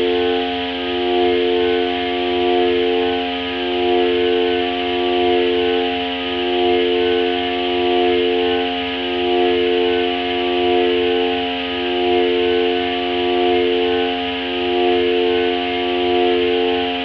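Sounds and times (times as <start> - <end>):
synthesizer drone: 0.0 - 17.0.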